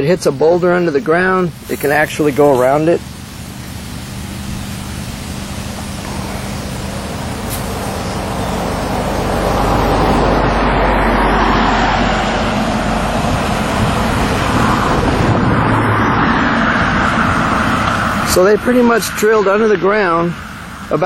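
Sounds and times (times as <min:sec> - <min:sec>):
rushing noise: 0:00.0 - 0:21.0
vehicle engine running: 0:00.0 - 0:21.0.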